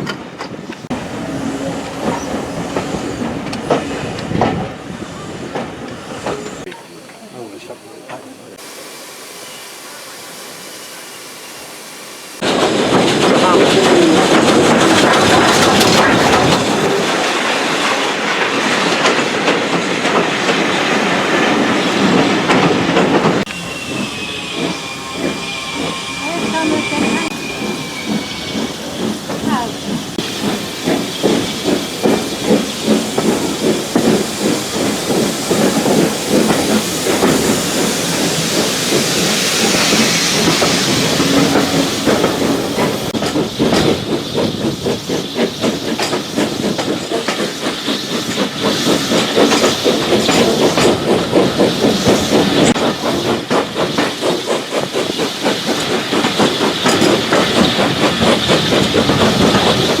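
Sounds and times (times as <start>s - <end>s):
steam locomotive exhaust beats: 0.0s - 60.0s
hiss of steam: 0.8s - 60.0s.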